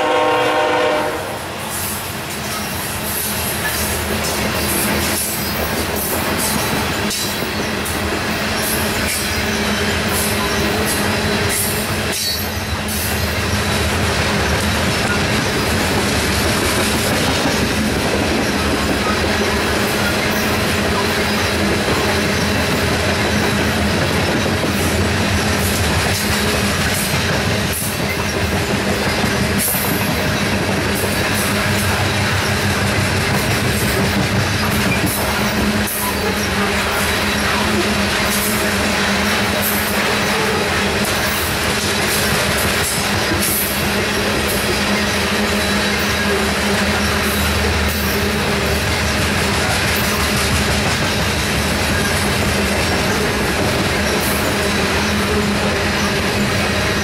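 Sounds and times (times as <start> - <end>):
clicks of rail cars: 0.0 - 57.0
steel wheels rumbling on rail: 0.0 - 57.0.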